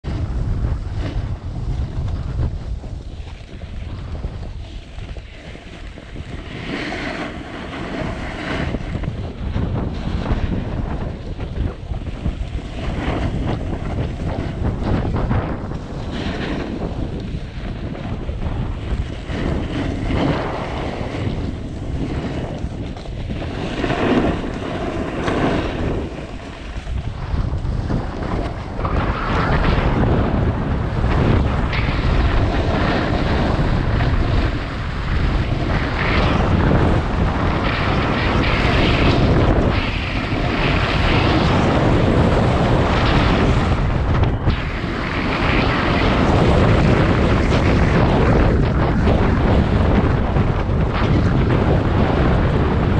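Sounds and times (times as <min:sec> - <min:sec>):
wind buffeting microphone: 0:00.0 - 0:52.9
snowboard scraping over snow: 0:00.1 - 0:52.9.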